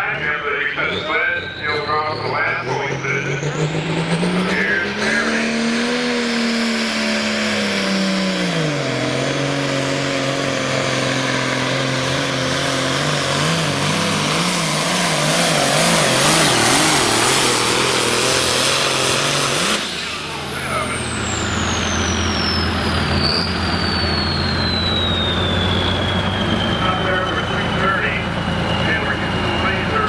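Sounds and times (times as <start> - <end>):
tractor diesel engine running hard: 0.0 - 30.0.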